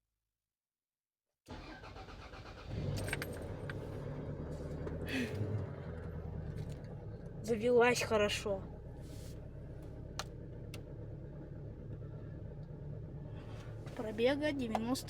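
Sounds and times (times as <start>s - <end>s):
car engine idling: 1.5s - 15.0s.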